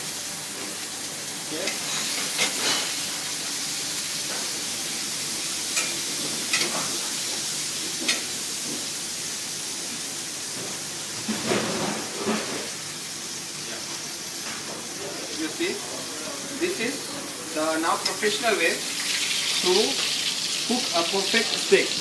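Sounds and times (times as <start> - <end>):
steak sizzling in a hot pan: 0.0 - 11.2, 12.1 - 22.0.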